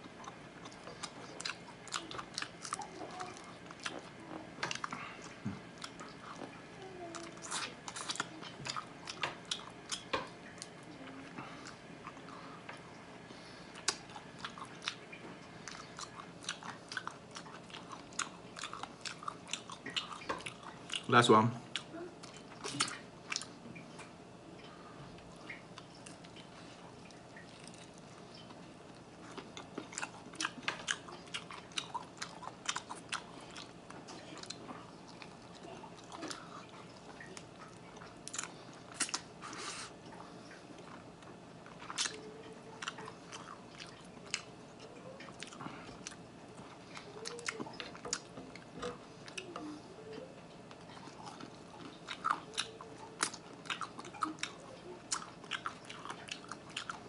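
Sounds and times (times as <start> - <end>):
chewing chicken wing: 0.0 - 23.6, 24.6 - 57.0.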